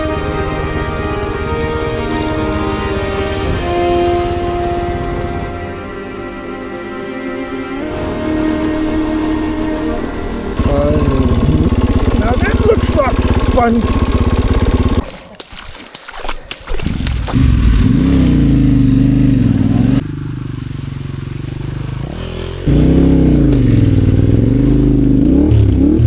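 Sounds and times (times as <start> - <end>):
motorcycle engine revving: 0.0 - 15.4, 16.5 - 26.0.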